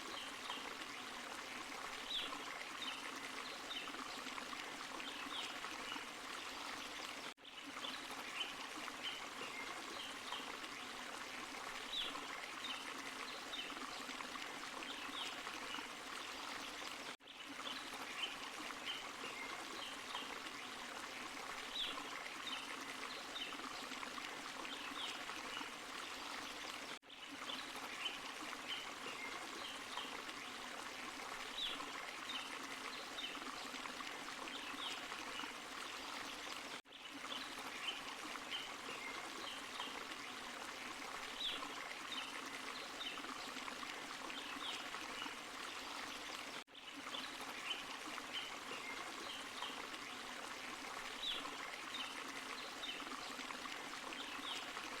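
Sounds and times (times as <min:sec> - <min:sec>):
waterfall and stream running: 0:00.0 - 0:55.0.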